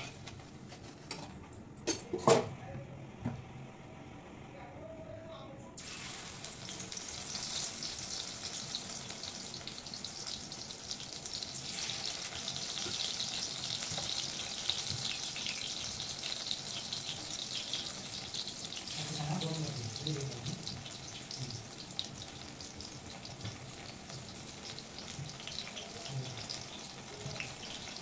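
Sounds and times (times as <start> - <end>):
battered flowers deep-frying in oil: 0.0 - 1.4, 5.8 - 28.0.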